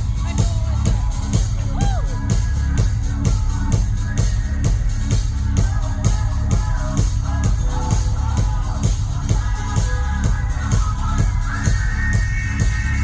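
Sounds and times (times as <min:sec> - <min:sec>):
bass: 0:00.0 - 0:13.0
fast drum beat: 0:00.0 - 0:13.0.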